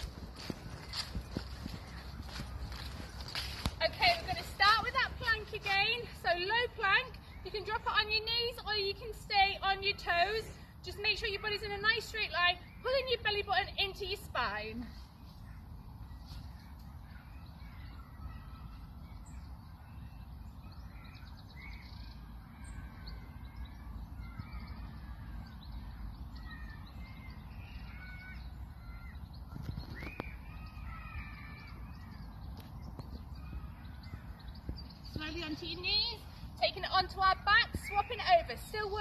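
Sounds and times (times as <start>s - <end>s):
birds calling and singing: 0.0s - 39.0s.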